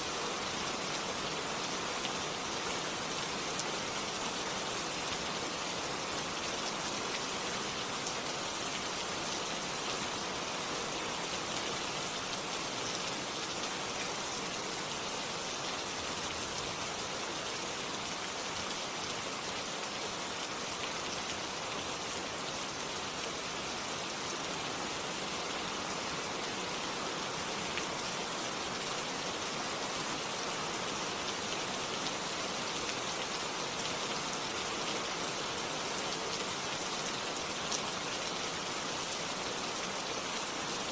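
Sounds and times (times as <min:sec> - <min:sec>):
steady dense rain: 0:00.0 - 0:40.9.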